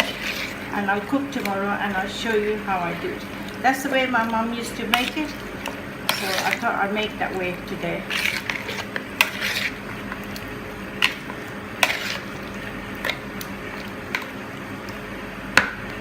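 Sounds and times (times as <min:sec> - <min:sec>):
wet squishing of marinade: 0:00.0 - 0:15.0.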